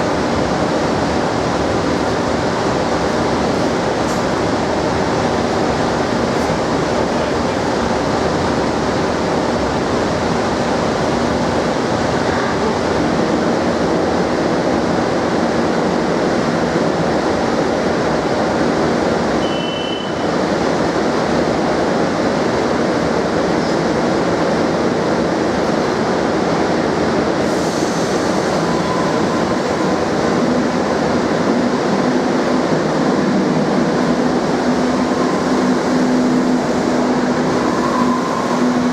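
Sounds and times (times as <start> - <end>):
train rushing noise: 0.0 - 38.9.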